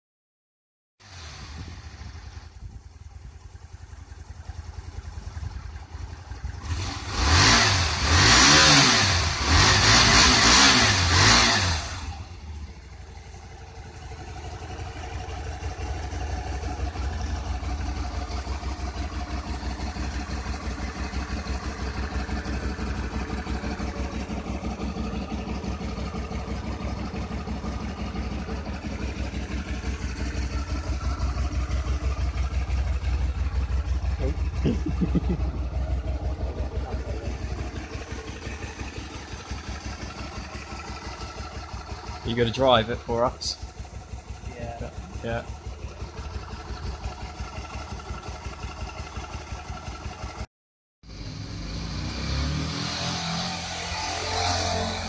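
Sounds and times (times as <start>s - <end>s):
motorbike engine idling and revving: 1.0s - 55.0s.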